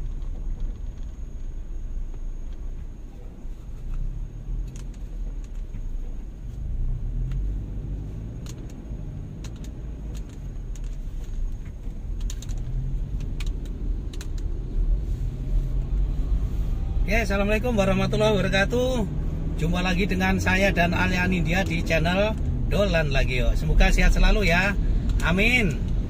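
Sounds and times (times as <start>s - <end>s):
light clicks and rattles: 0.0s - 15.0s, 19.9s - 26.0s
road traffic rumble: 0.0s - 26.0s.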